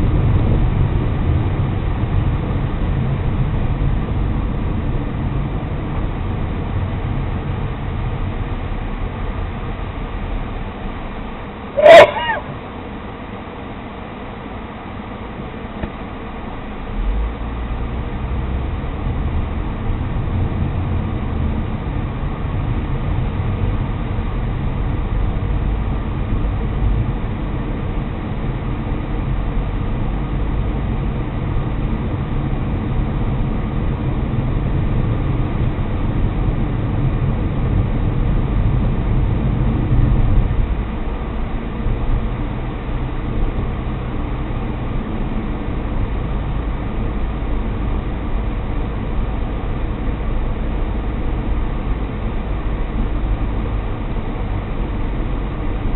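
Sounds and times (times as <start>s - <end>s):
car engine and road rumble: 0.0s - 55.9s.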